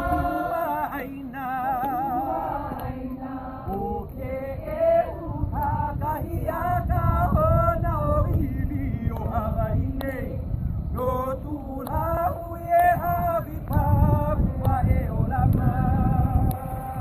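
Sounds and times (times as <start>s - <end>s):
group singing a chant: 0.0s - 17.0s.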